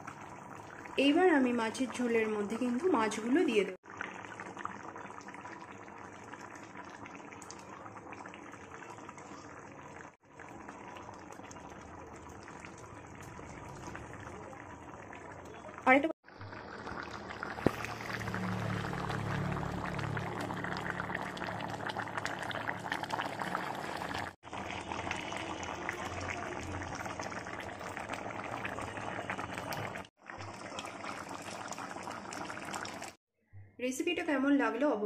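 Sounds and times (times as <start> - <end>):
curry bubbling in a pan: 0.0 - 33.2.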